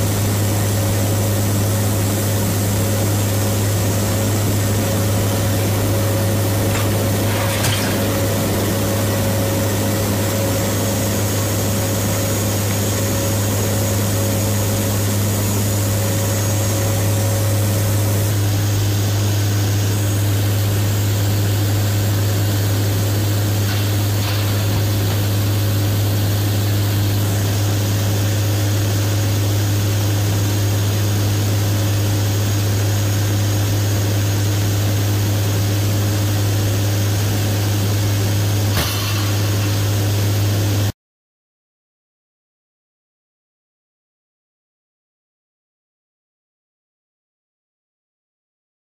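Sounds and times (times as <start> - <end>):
turboprop engines droning in cabin: 0.0 - 40.9.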